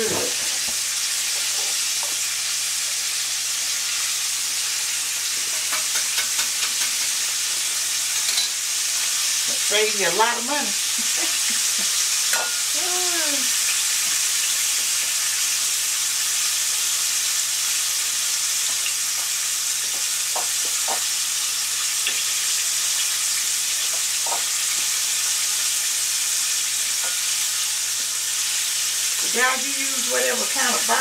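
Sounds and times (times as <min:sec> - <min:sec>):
chicken frying in oil: 0:00.0 - 0:31.0.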